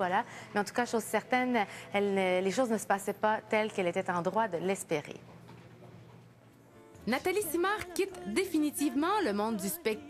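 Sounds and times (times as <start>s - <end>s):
faint music: 0.0s - 10.0s.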